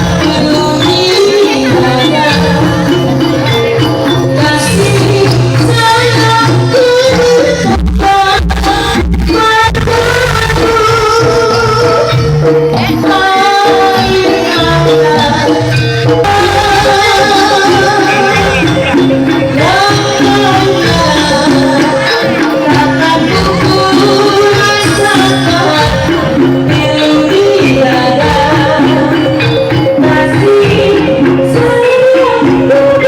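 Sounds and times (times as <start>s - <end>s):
steady percussion: 0.0s - 33.0s.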